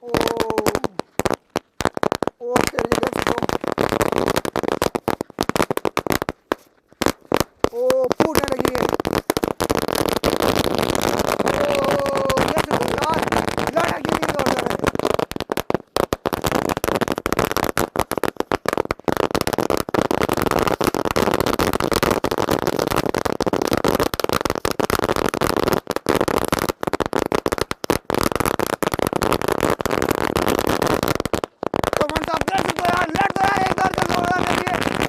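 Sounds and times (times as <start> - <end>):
firecracker string crackling: 0.0 - 35.0.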